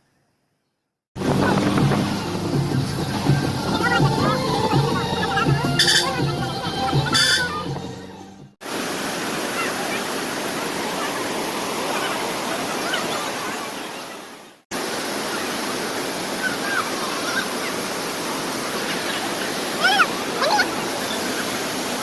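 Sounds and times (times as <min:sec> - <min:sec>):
waterfall rushing water: 0:01.2 - 0:07.7, 0:08.6 - 0:22.0.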